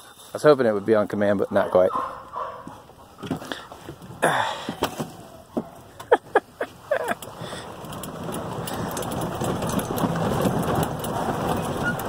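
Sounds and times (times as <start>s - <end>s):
utility vehicle moving on dirt: 0.0s - 12.0s.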